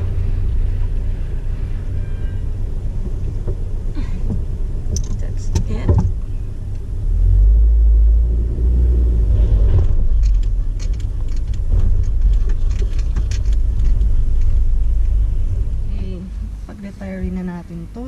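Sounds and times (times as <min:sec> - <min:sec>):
car rumble inside cabin: 0:00.0 - 0:18.0.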